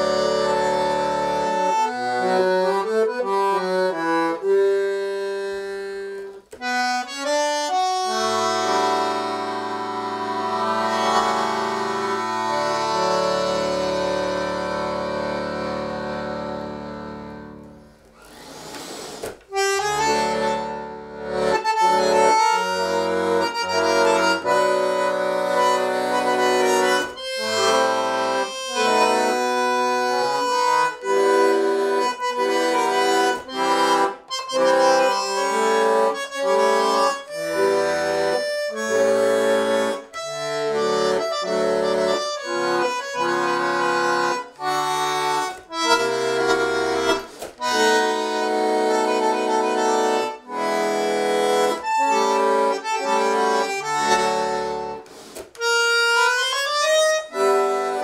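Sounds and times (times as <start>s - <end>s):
solo bandoneon playing tango: 0.0s - 58.0s.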